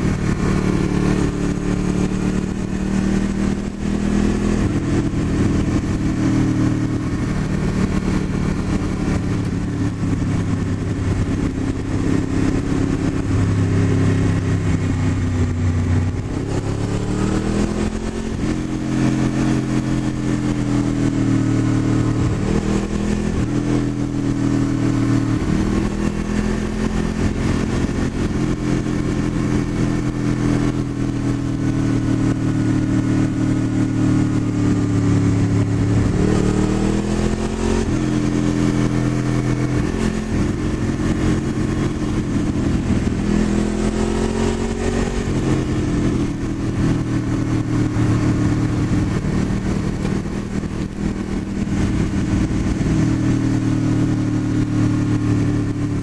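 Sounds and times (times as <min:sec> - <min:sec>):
wind rush: 0:00.0 - 0:32.0, 0:34.2 - 0:56.0
motorcycle engine revving: 0:00.0 - 0:56.0.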